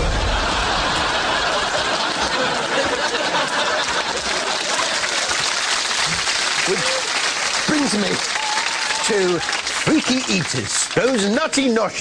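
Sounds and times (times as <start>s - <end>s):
audience laughing and clapping: 0.0s - 12.0s.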